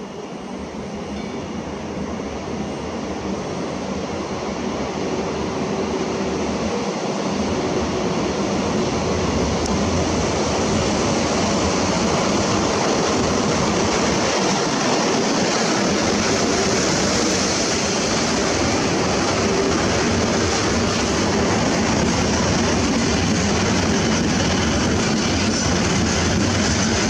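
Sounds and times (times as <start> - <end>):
freight train passing at speed: 0.0 - 27.0.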